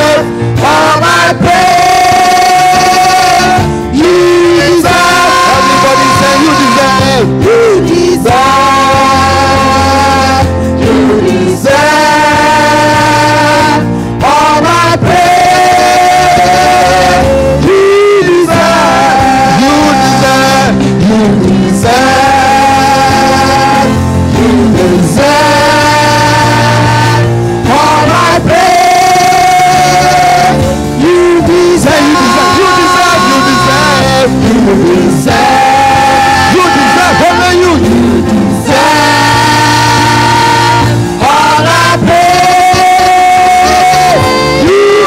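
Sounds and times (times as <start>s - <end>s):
band with steady bass: 0.0s - 45.0s
voices singing long notes: 0.0s - 45.0s.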